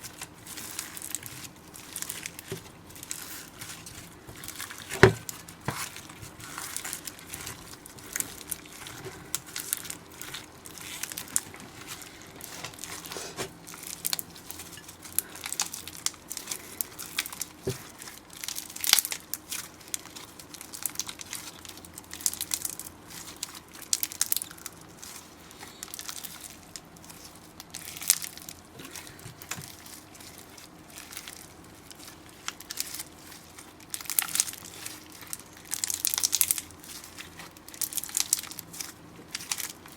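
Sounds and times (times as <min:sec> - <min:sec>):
slime crackling and popping: 0:00.0 - 0:39.9.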